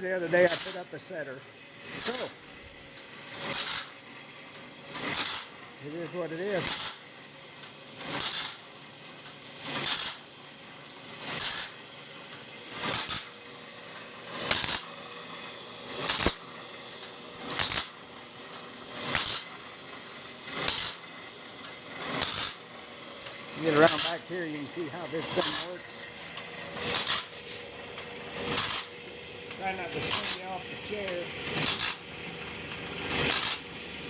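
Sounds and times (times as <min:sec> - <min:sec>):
grinding wheel grinding saw blade: 0:00.0 - 0:07.2, 0:07.9 - 0:08.6, 0:09.6 - 0:10.3, 0:11.0 - 0:34.0.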